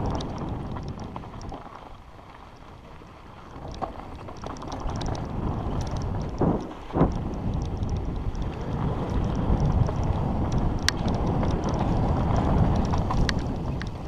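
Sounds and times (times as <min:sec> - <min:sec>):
bike rattling and clicking: 0:00.0 - 0:14.0
bike thudding over bump: 0:00.0 - 0:14.0
tyres crunching on gravel: 0:00.0 - 0:14.0
wind rushing over microphone: 0:00.0 - 0:14.0.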